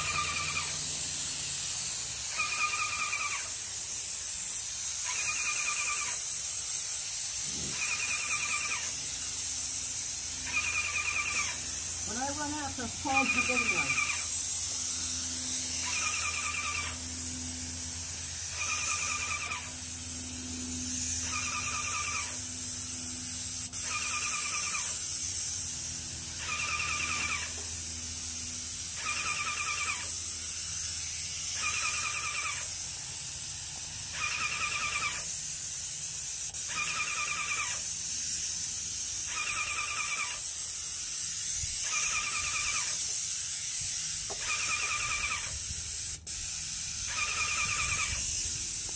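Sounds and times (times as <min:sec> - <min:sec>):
paint sprayer gun hissing: 0:00.0 - 0:48.9.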